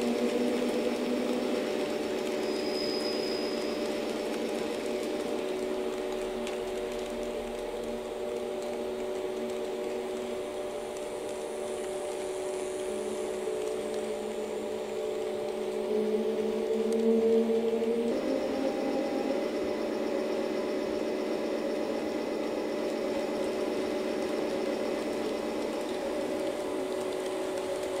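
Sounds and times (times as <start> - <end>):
model train electric hum: 0.0 - 28.0.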